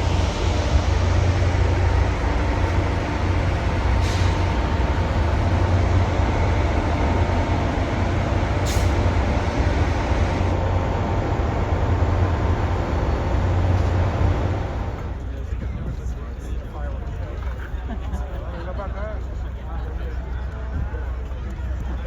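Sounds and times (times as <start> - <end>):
train rumbling: 0.0 - 17.9.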